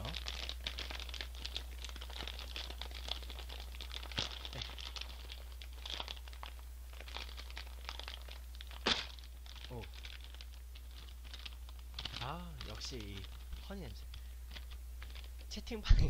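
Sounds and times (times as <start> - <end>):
plastic chip bag crinkling: 0.0 - 16.0.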